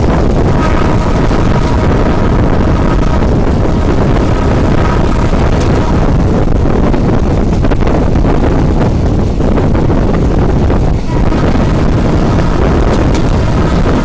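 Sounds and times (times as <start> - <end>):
train running rumble: 0.0 - 14.0
wind buffeting microphone: 0.0 - 14.0.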